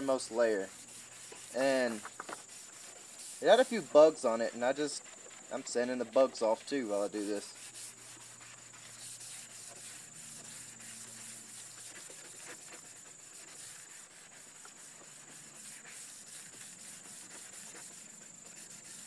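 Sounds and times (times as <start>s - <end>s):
sanding sponge rasping on plastic: 0.0s - 19.0s.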